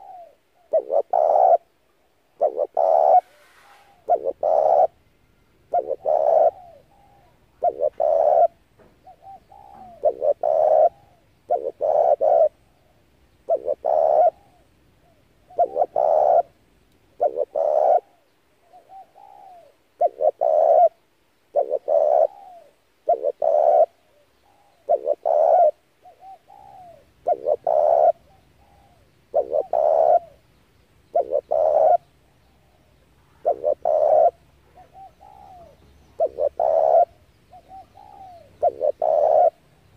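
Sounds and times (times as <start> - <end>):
dove cooing: 0.0 - 30.4, 31.1 - 39.9.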